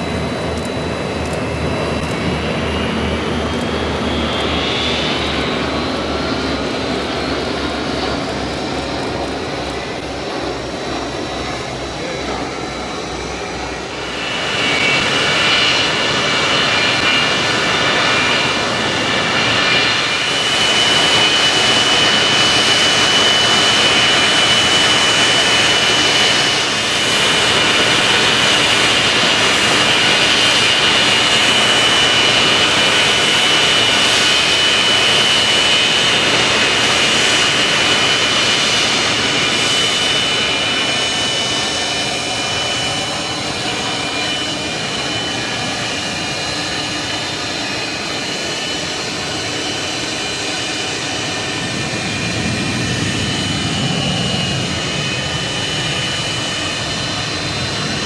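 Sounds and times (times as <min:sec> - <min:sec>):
aircraft engines rushing: 0:00.0 - 0:58.0
high engine whine: 0:00.0 - 0:58.0.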